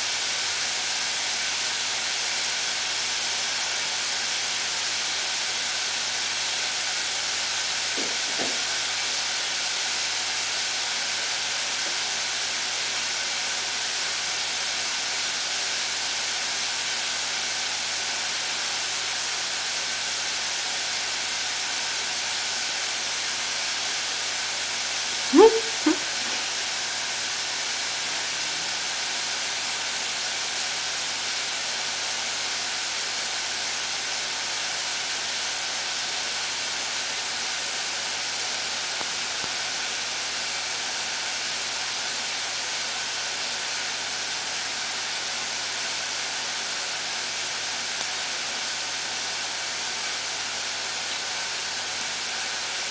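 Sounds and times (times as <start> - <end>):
steady hiss: 3.7 - 52.8.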